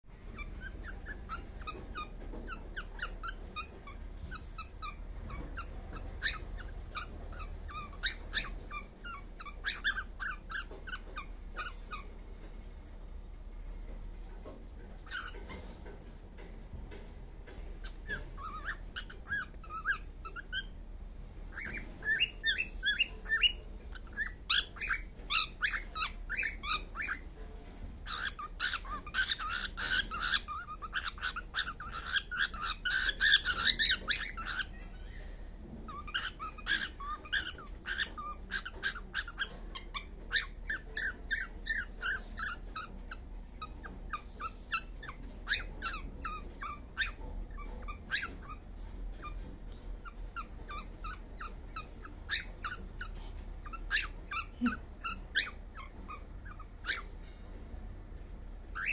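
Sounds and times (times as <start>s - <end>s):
cockatiel chirping: 0.1s - 12.4s, 14.4s - 15.6s, 17.5s - 57.4s, 58.7s - 58.9s.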